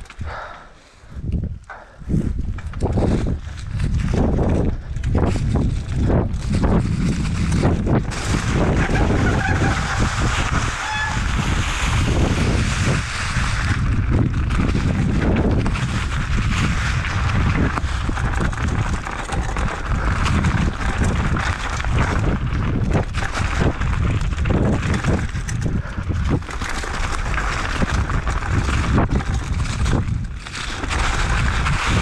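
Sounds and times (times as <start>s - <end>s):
wind rushing over microphone: 1.1s - 32.0s
bike rattling over bumps: 1.7s - 32.0s
tyres crunching over leaves: 2.9s - 32.0s.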